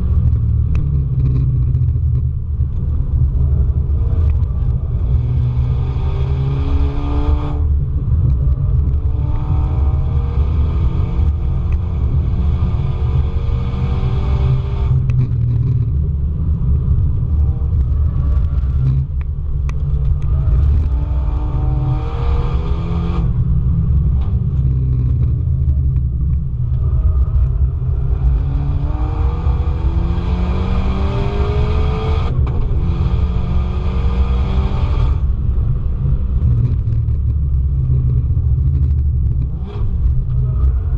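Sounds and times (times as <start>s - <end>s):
car engine revving at full throttle: 0.0s - 40.9s
wind and road noise rumble: 0.0s - 40.9s.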